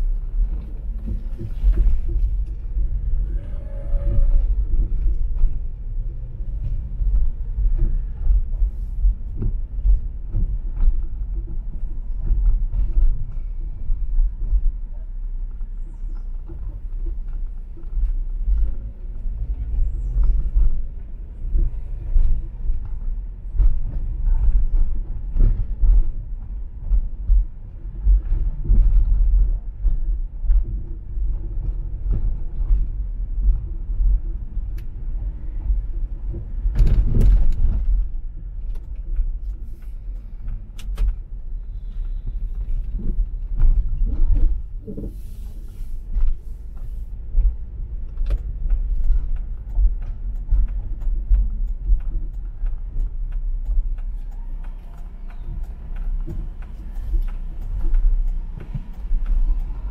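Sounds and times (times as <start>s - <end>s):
car road rumble: 0.0s - 59.9s.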